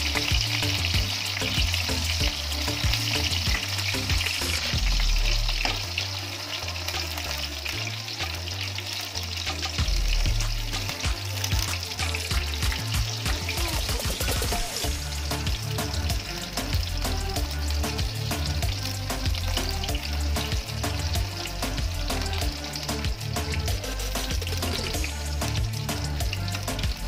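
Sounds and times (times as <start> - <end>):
eggplant sizzling in hot oil: 0.0 - 27.0
music with heavy bass: 0.0 - 27.0.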